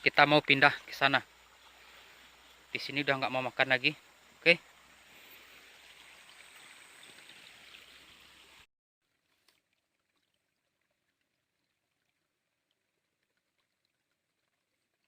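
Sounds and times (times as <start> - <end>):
faint river water flowing: 0.0 - 15.0.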